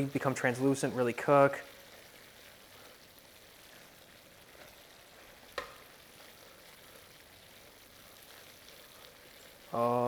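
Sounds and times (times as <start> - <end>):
rice sizzling in a pan: 0.0 - 10.0.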